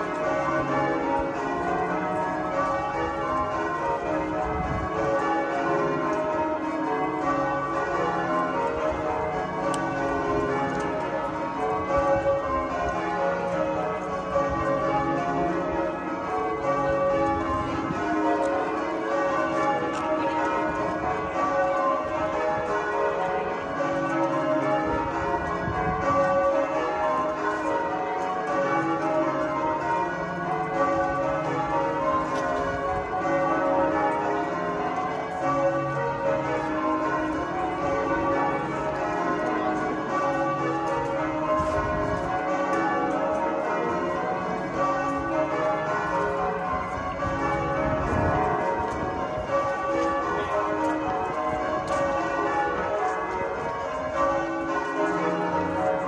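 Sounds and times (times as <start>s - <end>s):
church bells ringing in changes: 0.0s - 56.0s.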